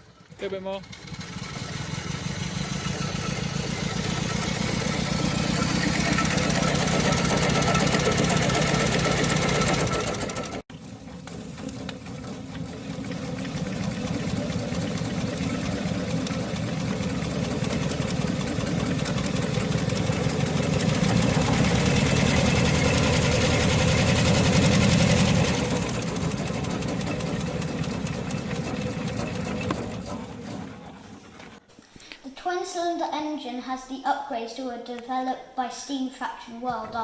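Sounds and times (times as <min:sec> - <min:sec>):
steam engine chuffing: 0:00.0 - 0:31.7.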